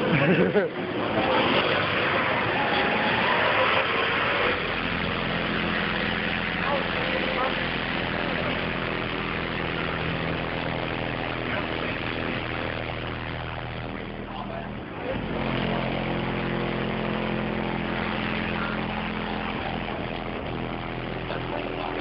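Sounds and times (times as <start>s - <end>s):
subwoofer low bass note: 0.0s - 22.0s.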